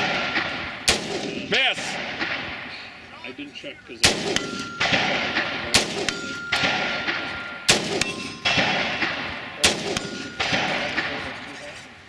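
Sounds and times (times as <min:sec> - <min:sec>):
steel target ringing: 0:00.0 - 0:02.5, 0:04.0 - 0:11.8
gunshot echo: 0:00.0 - 0:03.0, 0:04.0 - 0:11.8
rifle shots: 0:00.0 - 0:03.1, 0:04.0 - 0:11.9.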